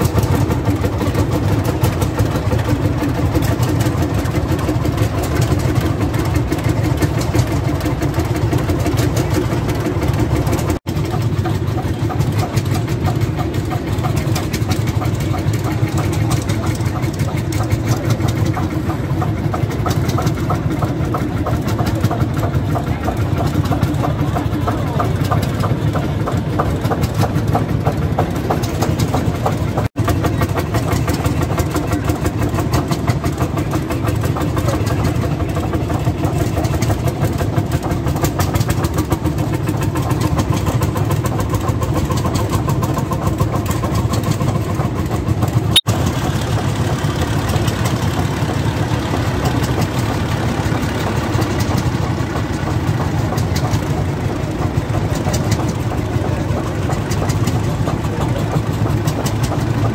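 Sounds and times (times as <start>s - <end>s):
tractor engines chugging: 0.0s - 59.9s.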